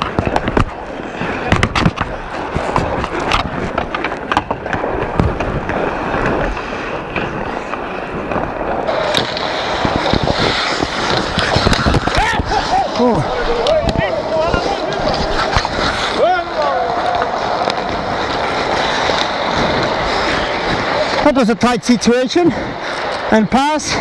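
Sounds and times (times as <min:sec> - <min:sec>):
sticks and puck clacking: 0:00.0 - 0:21.4
skates scraping on ice: 0:00.0 - 0:24.0.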